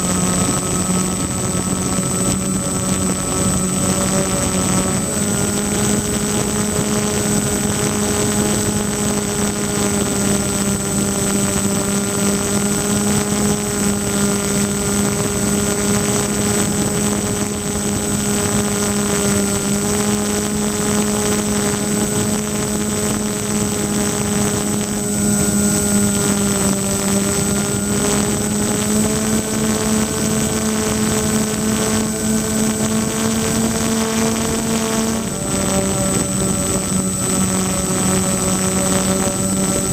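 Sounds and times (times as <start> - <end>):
electric motors droning: 0.0 - 39.9
wind rushing over microphone: 0.0 - 39.9.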